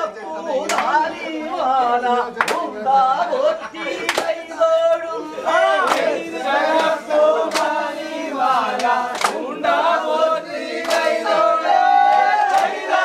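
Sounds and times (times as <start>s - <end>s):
men singing in chorus: 0.0s - 13.0s.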